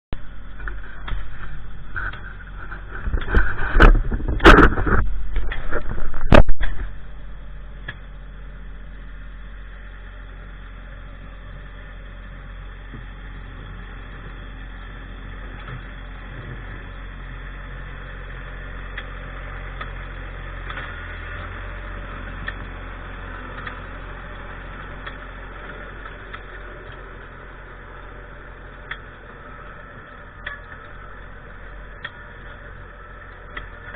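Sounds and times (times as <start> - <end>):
tractor engine idling: 0.1 - 33.9.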